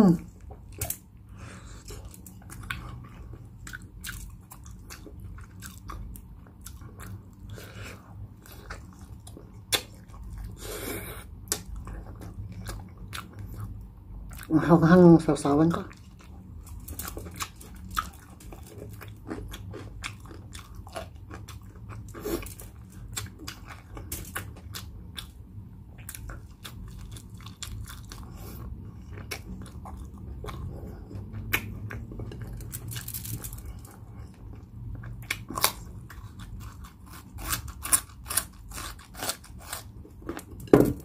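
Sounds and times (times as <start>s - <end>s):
chewing crispy food: 0.2s - 14.9s, 15.5s - 40.8s.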